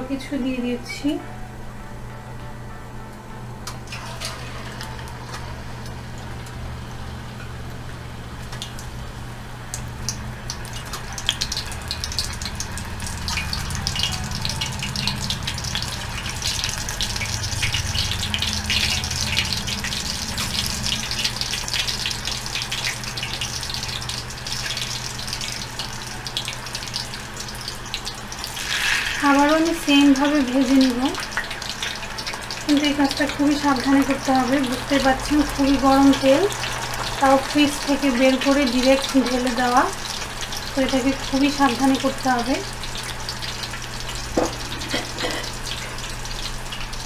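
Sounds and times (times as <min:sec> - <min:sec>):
oil bubbling and crackling: 0:03.7 - 0:47.0.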